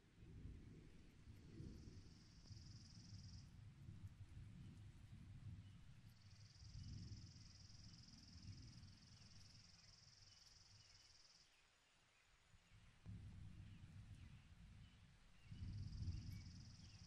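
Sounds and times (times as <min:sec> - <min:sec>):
faint low rumble: 0:00.0 - 0:11.3, 0:12.6 - 0:17.0.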